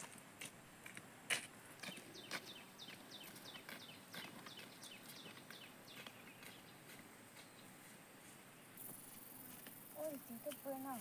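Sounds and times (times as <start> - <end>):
faint bird chirping: 1.8 - 11.0.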